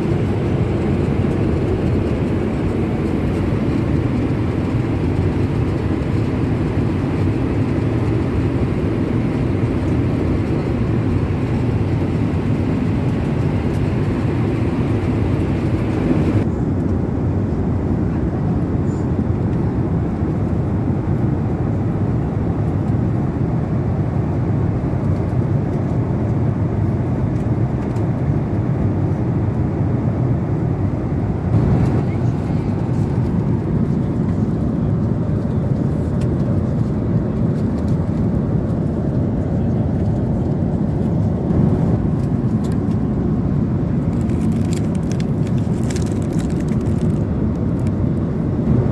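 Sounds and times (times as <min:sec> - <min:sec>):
airliner cabin noise: 0:00.0 - 0:48.9.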